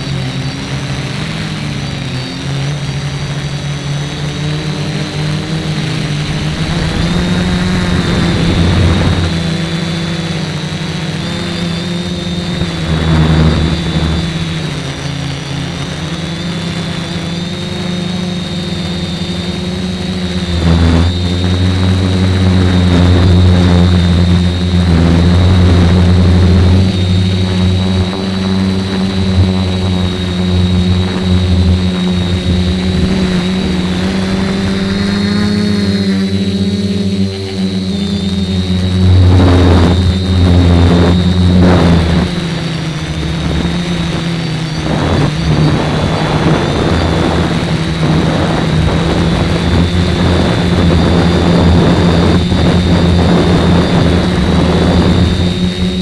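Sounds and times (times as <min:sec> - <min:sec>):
drone motors humming and whining: 0:00.0 - 0:56.0.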